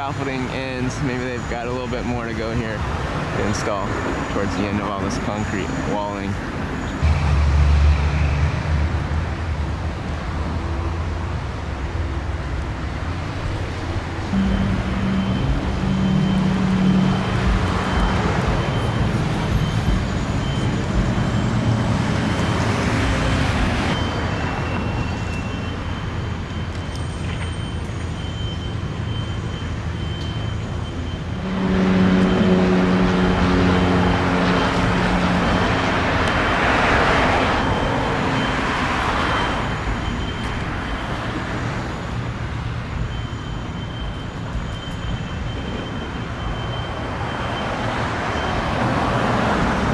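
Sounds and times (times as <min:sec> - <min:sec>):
heavy vehicle engine hum: 0:00.0 - 0:49.9
road traffic passing: 0:00.0 - 0:49.9.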